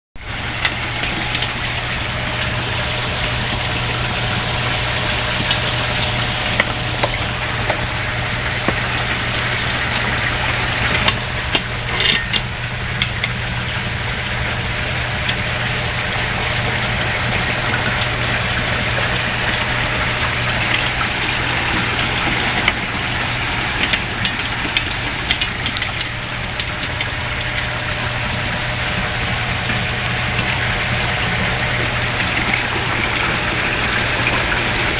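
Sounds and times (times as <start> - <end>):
bubbling churning water: 0.2 - 34.9
low hum: 0.2 - 34.9
small splashes: 0.2 - 34.9.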